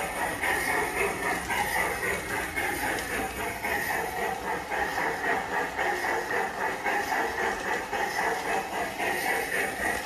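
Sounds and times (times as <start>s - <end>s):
model steam locomotive running: 0.0s - 10.0s.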